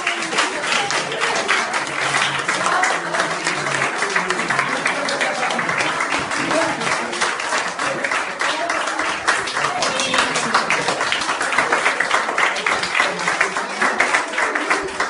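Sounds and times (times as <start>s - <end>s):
audience applauding: 0.0s - 15.0s
voices: 0.0s - 15.0s.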